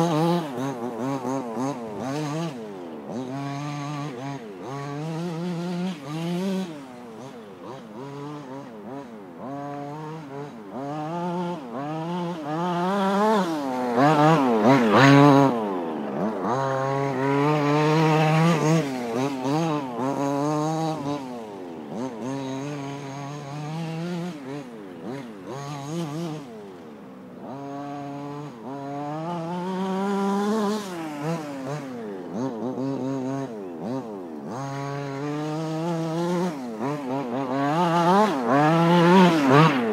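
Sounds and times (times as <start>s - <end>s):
rc car engine revving: 0.0s - 39.9s.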